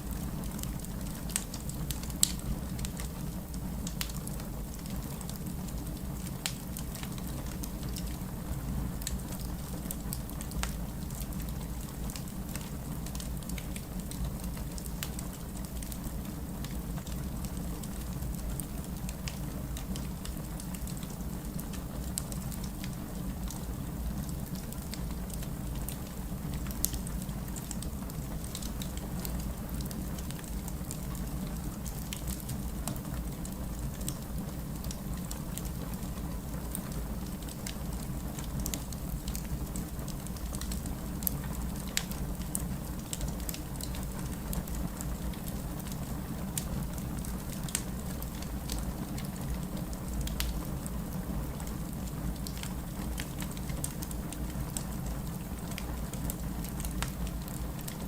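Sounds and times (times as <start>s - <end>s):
fireplace crackling and popping: 0.0s - 58.0s
steady rain: 0.0s - 58.0s.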